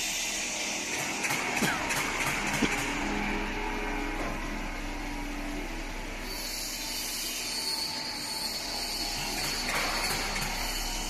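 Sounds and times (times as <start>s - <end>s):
high whine and hiss: 0.0s - 11.0s
washing machine mechanical noise: 0.0s - 11.0s.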